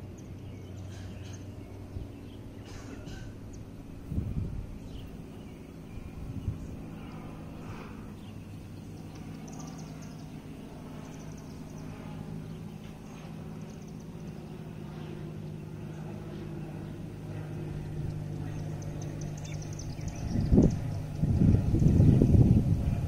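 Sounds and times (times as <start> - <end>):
propeller plane engine drone: 0.0 - 23.0.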